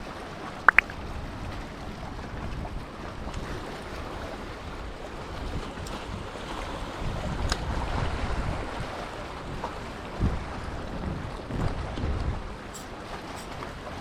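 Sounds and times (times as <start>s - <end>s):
sea waves washing: 0.0s - 11.5s, 12.3s - 14.0s
wind rumbling on microphone: 0.0s - 14.0s.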